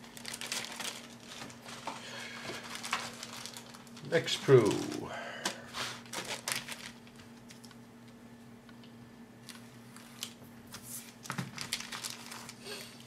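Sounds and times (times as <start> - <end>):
plastic bag crinkling: 0.0 - 7.8, 9.5 - 10.4, 11.0 - 13.0
faint steady hum: 0.0 - 13.0.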